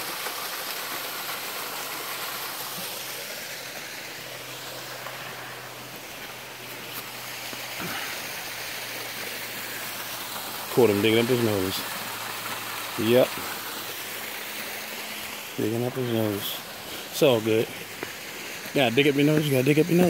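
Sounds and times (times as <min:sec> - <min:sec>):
stream and waterfall rushing: 0:00.0 - 0:20.0.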